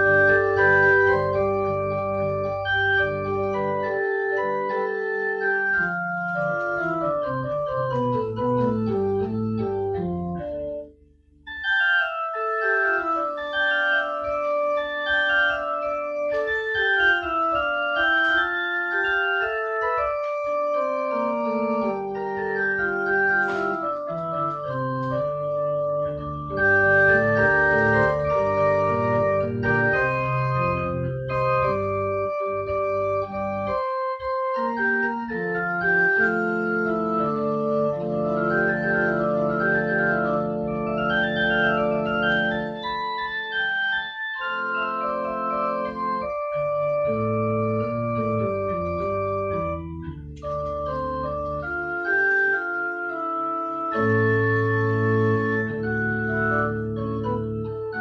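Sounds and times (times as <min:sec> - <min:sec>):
keyboard organ melody: 0:00.0 - 0:58.0.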